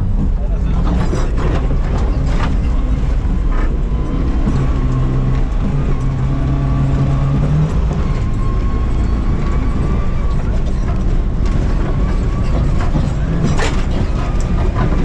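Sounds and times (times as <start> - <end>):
rally car engine rumble: 0.0 - 15.0.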